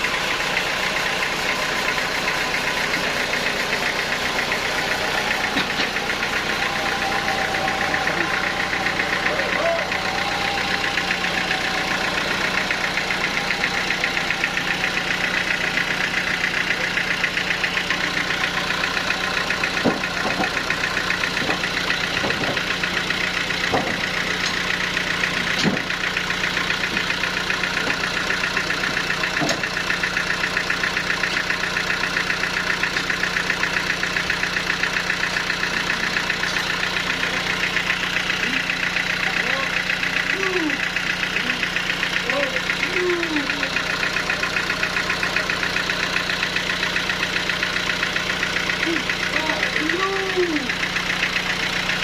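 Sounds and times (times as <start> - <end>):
sawmill engine running: 0.0 - 52.0.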